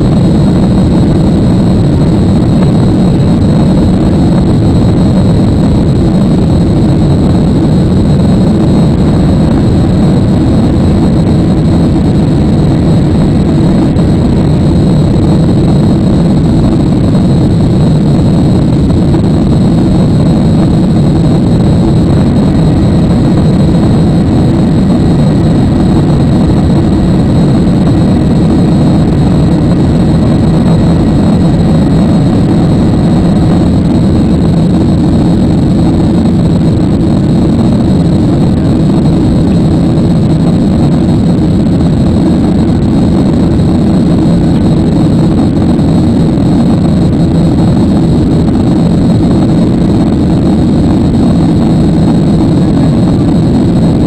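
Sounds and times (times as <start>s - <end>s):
jet engine cabin roar: 0.0s - 54.0s
thin high whine: 0.0s - 54.0s.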